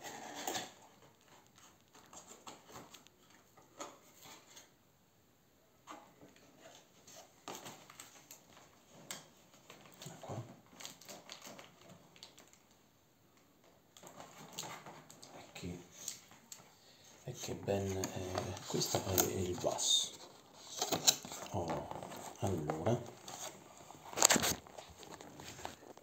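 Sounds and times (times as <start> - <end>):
toy box handling clicks and rustles: 0.0 - 4.7, 5.9 - 12.8, 13.6 - 26.0.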